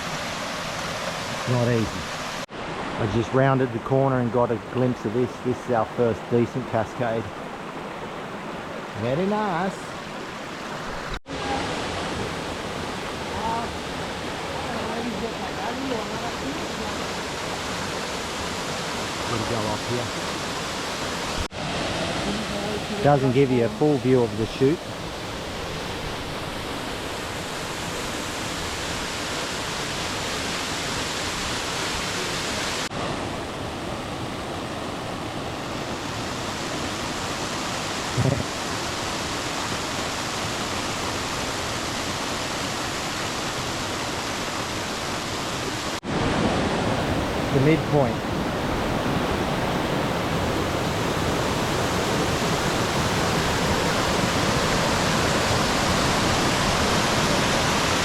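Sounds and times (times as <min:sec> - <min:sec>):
water rushing over cascade: 0:00.0 - 0:58.0.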